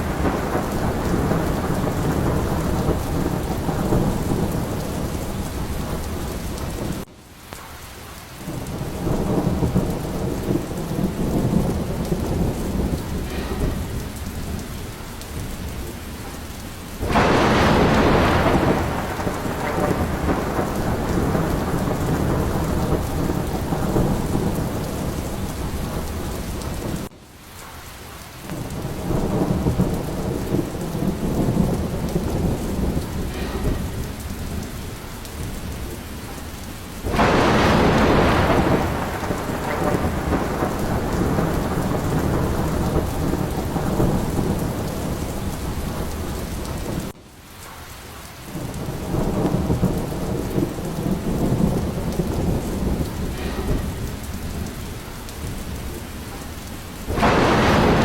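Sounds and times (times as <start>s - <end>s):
rolling thunder: 0.0s - 7.1s, 8.4s - 27.1s, 28.5s - 47.2s, 48.0s - 58.0s
sharp thunder burst: 0.0s - 7.1s, 8.5s - 27.1s, 28.5s - 36.4s, 37.0s - 47.2s, 48.5s - 58.0s
heavy rain: 0.0s - 58.0s.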